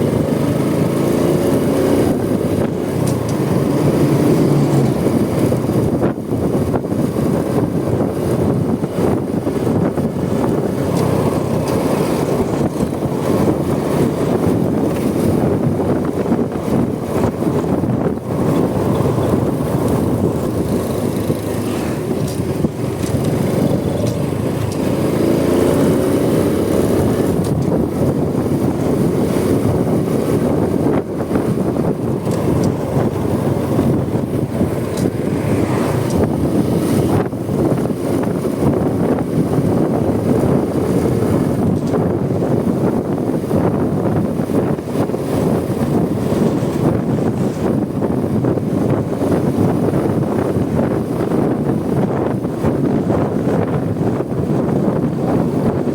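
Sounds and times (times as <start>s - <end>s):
motorcycle engine running at speed: 0.0s - 55.9s
wind rush on microphone: 0.0s - 55.9s.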